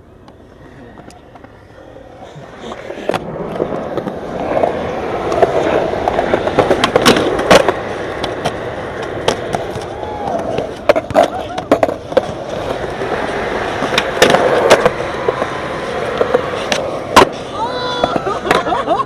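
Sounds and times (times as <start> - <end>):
skateboard wheels rolling on concrete: 0.0 - 19.0
skateboard clacks: 0.2 - 19.0.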